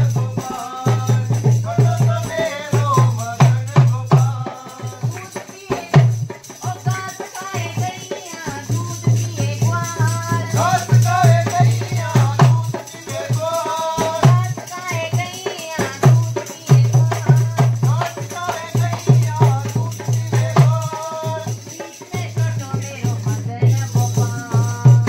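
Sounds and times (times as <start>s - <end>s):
barrel drum beating folk rhythm: 0.0s - 25.0s.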